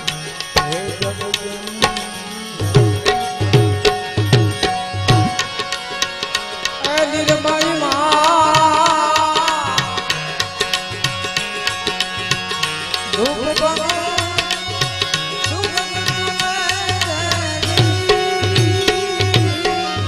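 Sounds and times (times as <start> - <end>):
harmonium chords: 0.0 - 20.0
tabla rhythm: 0.0 - 20.0.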